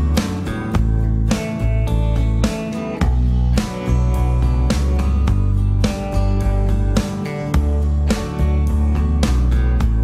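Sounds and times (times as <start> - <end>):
deep steady bass: 0.0 - 10.0
guitar notes: 0.0 - 10.0
instrumental music with beat: 0.0 - 10.0.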